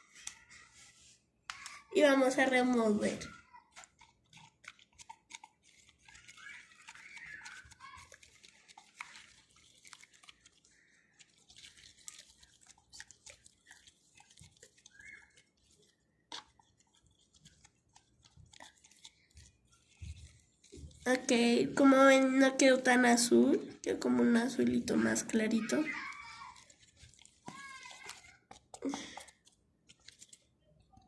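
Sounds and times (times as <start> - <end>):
sticky glue squelching: 1.5 - 31.0.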